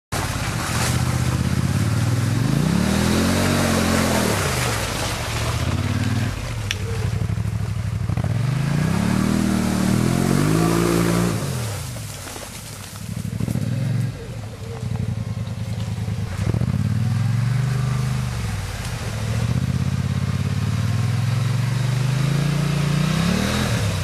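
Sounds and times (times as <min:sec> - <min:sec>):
quad bike engines revving: 0:00.2 - 0:24.0.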